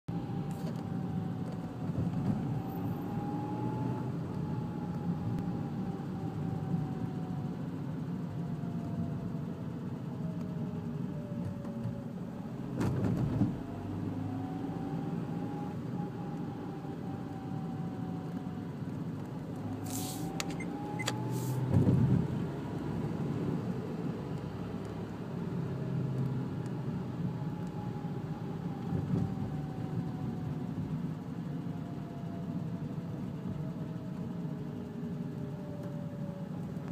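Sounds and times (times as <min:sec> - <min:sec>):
engine whine: 0:00.1 - 0:36.9.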